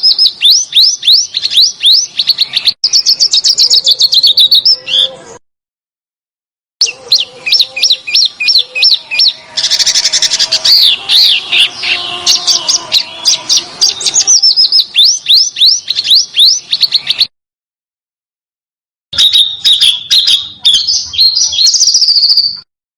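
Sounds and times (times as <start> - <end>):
songbird singing: 0.0 - 5.4, 6.8 - 17.3, 19.2 - 22.7.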